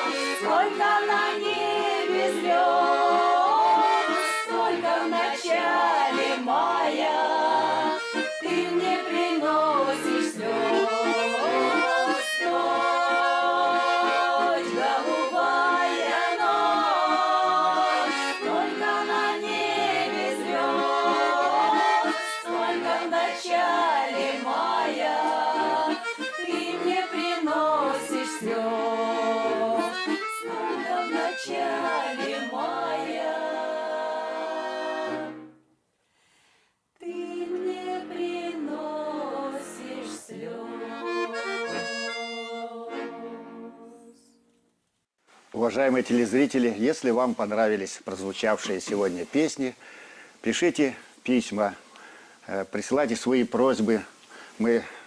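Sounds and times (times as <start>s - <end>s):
accordion folk tune: 0.0s - 35.8s, 36.5s - 44.6s, 45.6s - 55.0s.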